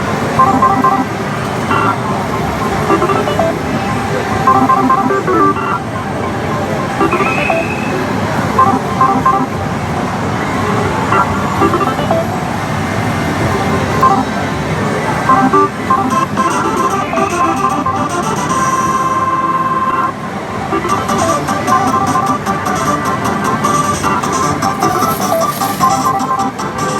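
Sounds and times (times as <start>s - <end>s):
slot parlor din: 0.3s - 9.6s, 11.1s - 12.7s, 14.0s - 14.4s, 15.0s - 26.9s
slot machine beeps and jingles: 0.3s - 9.7s, 11.1s - 12.8s, 13.7s - 26.9s.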